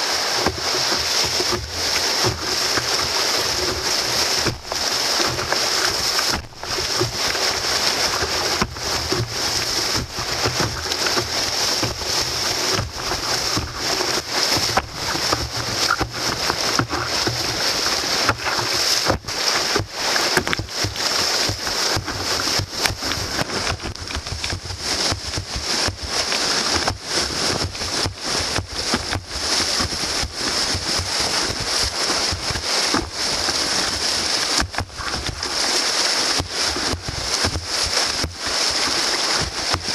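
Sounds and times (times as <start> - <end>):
whitewater rapids rushing: 0.0 - 39.9.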